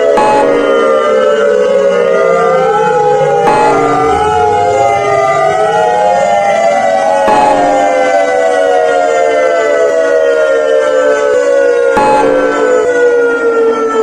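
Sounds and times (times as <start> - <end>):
emergency alert siren wailing: 0.0 - 14.0.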